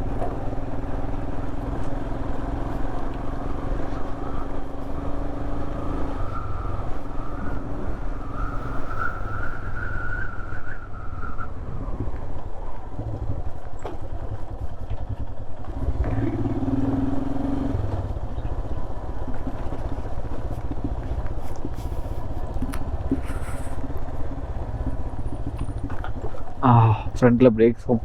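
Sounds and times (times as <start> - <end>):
motorcycle engine running: 0.0 - 9.0, 11.8 - 28.0
brake squeaks: 0.0 - 16.4, 17.8 - 27.2.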